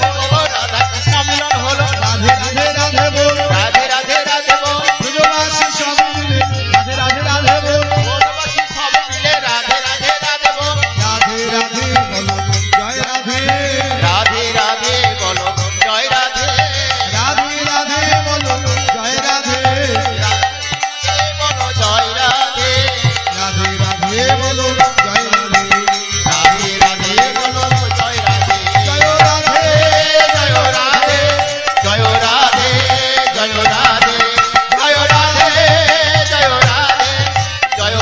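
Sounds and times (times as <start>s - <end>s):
harmonium chords: 0.0s - 38.0s.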